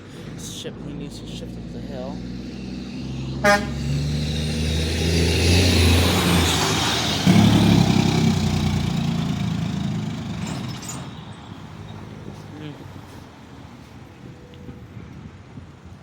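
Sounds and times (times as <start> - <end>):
diesel truck engine pulling uphill: 0.0 - 16.0.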